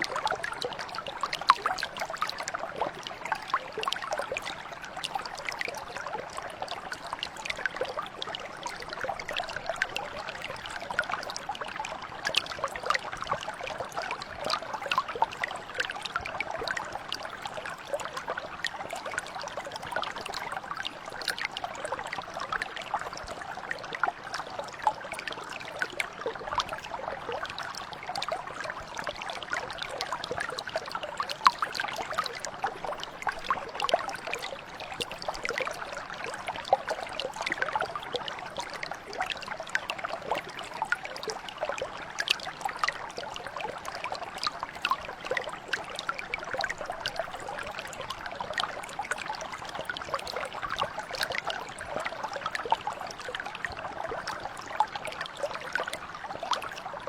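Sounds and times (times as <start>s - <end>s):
brook flowing over rocks: 0.0s - 57.0s.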